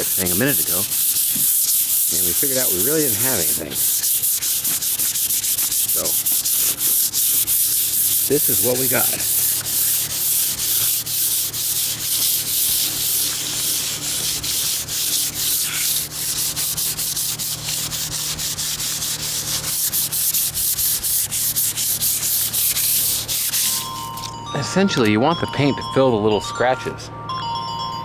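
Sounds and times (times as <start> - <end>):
sandpaper rasping on metal: 0.0 - 24.1.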